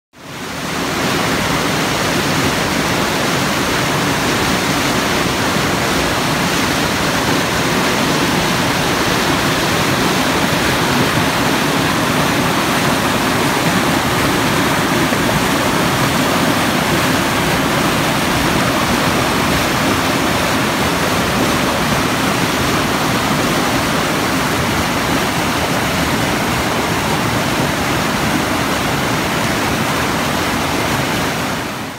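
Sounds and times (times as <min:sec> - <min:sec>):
river rushing over rocks: 0:00.2 - 0:31.9.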